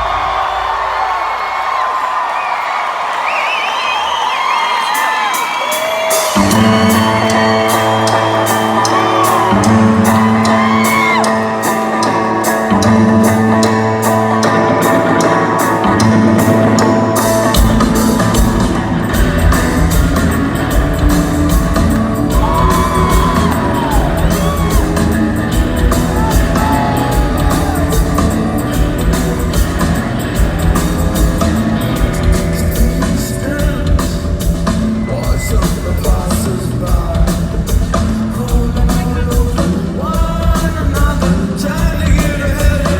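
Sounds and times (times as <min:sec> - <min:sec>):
crowd whooping: 0:00.0 - 0:16.0, 0:17.4 - 0:33.7, 0:34.6 - 0:36.9
live rock band playing: 0:04.4 - 0:42.9
drum kit: 0:04.5 - 0:42.9.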